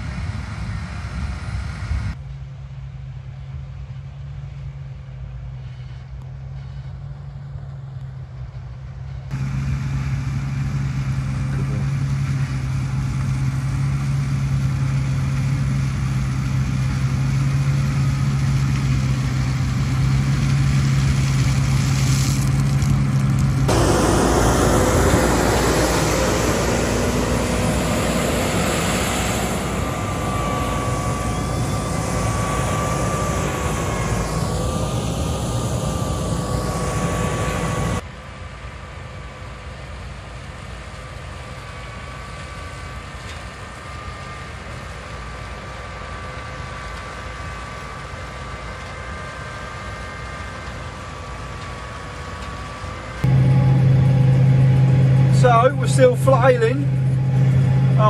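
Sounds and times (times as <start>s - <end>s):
diesel engine drone: 0.0s - 58.0s
faint wavering whine: 8.4s - 58.0s.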